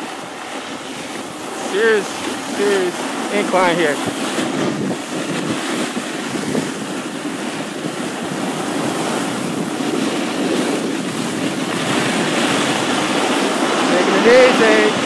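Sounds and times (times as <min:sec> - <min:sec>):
snowboard scraping on snow: 0:00.0 - 0:15.0
wind on microphone: 0:00.0 - 0:15.0.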